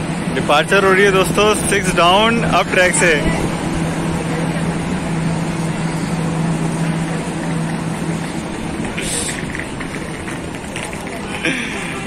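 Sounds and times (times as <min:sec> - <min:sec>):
low hum: 0:00.0 - 0:12.0
train coaches rumbling past: 0:00.0 - 0:12.0.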